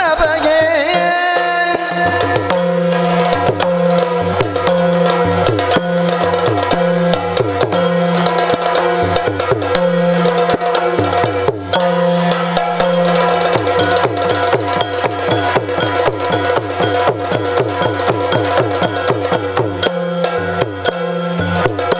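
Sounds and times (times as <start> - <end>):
drums playing repeating pattern: 0.0 - 21.9.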